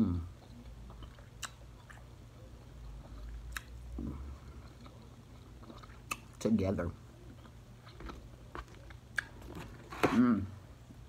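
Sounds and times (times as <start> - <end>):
person chewing food: 0.4 - 6.4, 7.1 - 10.2.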